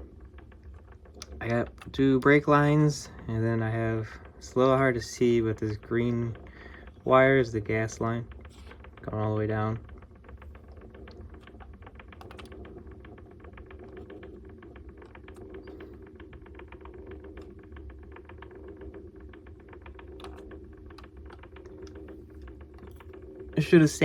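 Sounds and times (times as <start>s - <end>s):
rapid light clicking: 0.0s - 24.0s
steady low hum: 0.0s - 24.0s.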